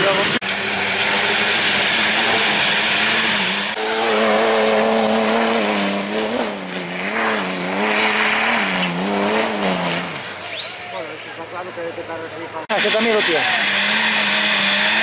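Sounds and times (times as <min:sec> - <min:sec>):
off-road engine revving hard: 0:00.0 - 0:10.8, 0:12.6 - 0:15.0.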